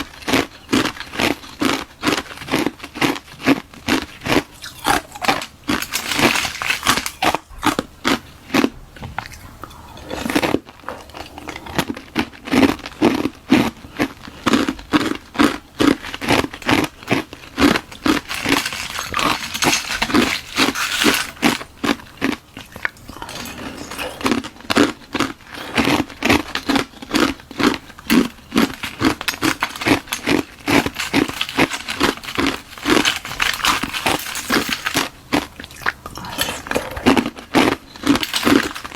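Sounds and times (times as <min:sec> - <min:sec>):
ice being chewed with crunches: 0:00.0 - 0:38.9.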